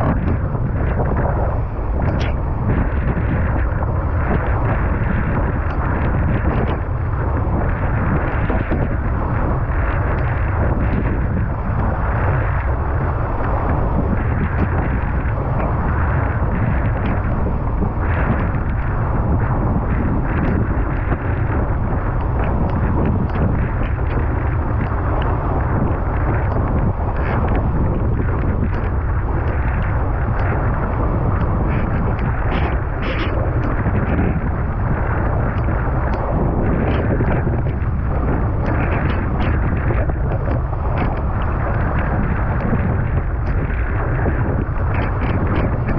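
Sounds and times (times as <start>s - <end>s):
rushing water under a board: 0.0s - 45.9s
wind buffeting microphone: 0.0s - 45.9s.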